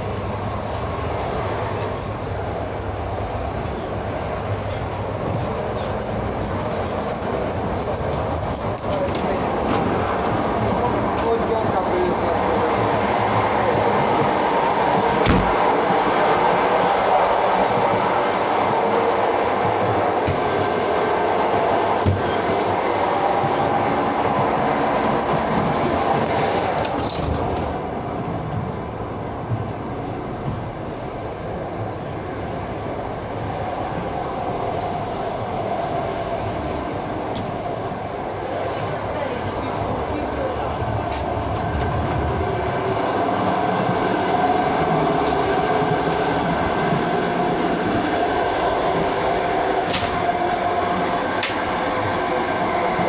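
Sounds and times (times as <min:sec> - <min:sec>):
train rumble and rattle: 0:00.0 - 0:53.0.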